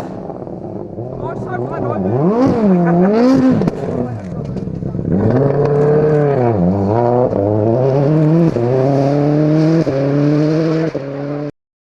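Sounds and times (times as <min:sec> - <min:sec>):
rally car engine accelerating: 0:00.0 - 0:11.5.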